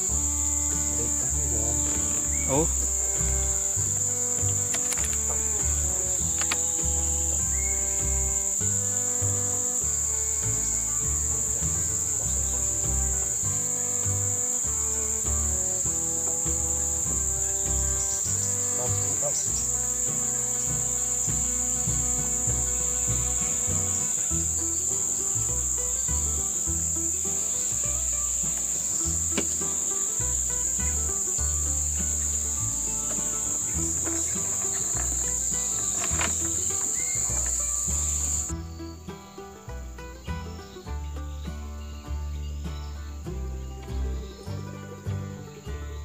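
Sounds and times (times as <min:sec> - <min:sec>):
background music with bass notes: 0:00.0 - 0:46.0
high-pitched insect chorus: 0:00.0 - 0:46.0.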